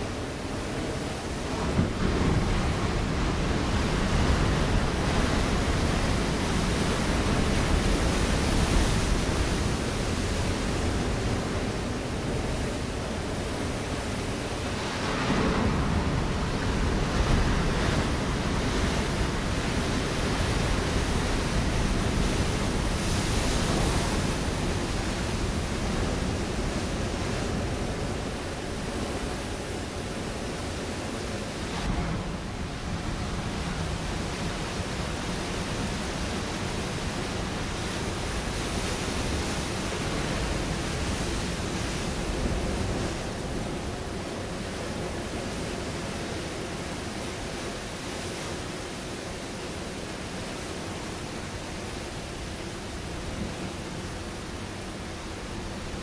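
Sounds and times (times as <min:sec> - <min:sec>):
ocean waves breaking on rocks: 0:00.0 - 0:56.0.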